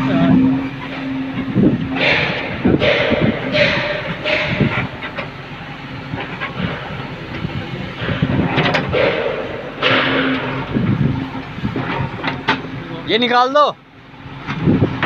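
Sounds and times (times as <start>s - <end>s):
digger diesel engine under load: 0.0s - 15.0s.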